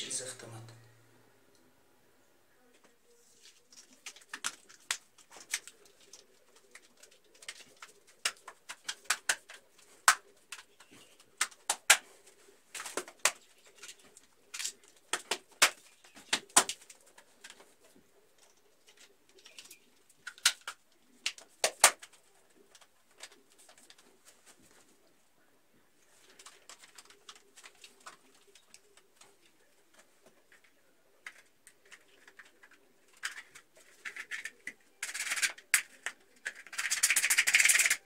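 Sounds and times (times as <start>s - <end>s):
faint low hum: 0.0s - 36.8s.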